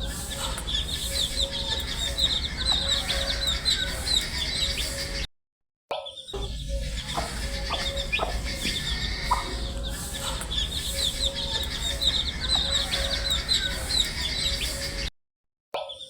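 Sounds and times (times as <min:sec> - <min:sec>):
baby chicks peeping: 0:00.0 - 0:05.2, 0:06.3 - 0:15.1.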